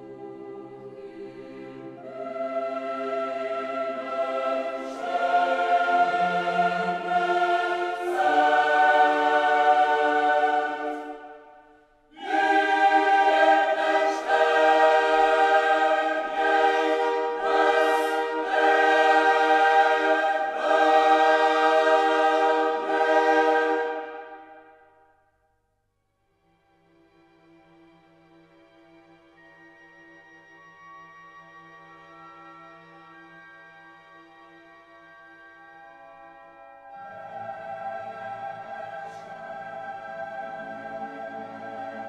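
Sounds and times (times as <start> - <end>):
slow choral music: 0.0 - 25.5, 29.4 - 42.0.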